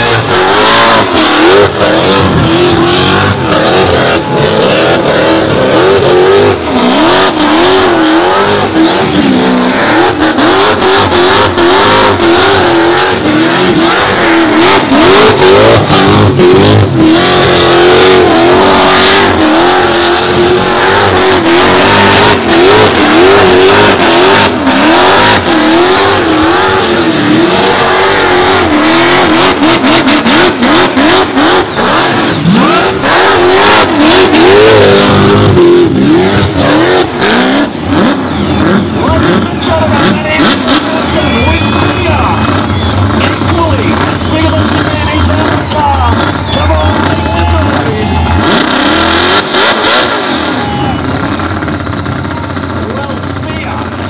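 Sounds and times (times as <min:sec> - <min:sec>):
tyres squealing in burnout: 0:00.0 - 0:52.3
car engine at high revs: 0:00.0 - 0:54.0.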